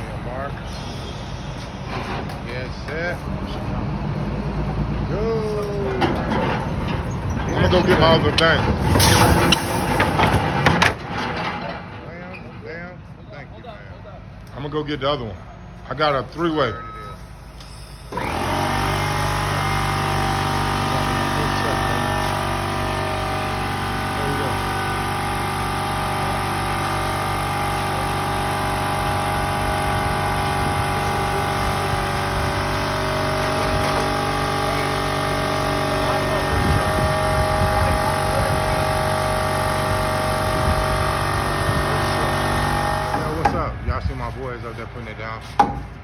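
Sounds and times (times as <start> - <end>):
diesel engine droning: 0.0 - 13.5, 14.2 - 46.0.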